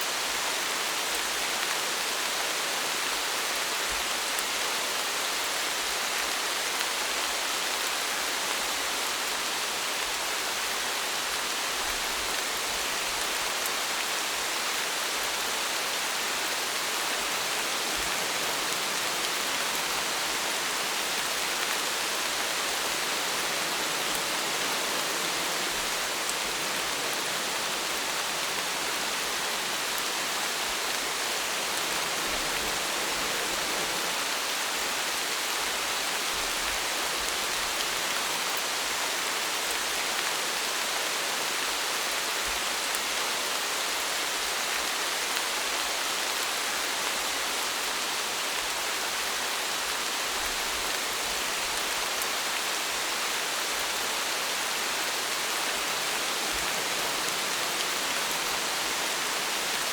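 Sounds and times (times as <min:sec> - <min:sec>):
rain falling steadily: 0:00.0 - 0:59.9.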